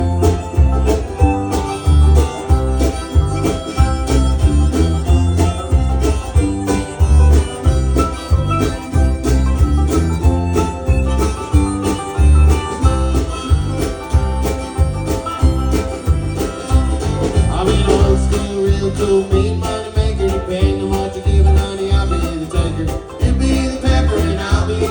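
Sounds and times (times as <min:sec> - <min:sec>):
banjo and guitar picking: 0:00.0 - 0:24.9
upbeat country music: 0:00.0 - 0:24.9.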